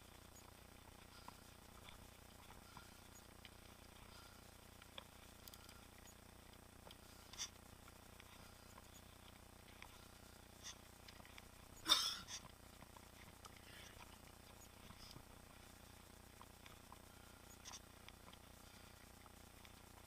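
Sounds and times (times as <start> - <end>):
faint ticks and clicks: 0.0 - 20.0.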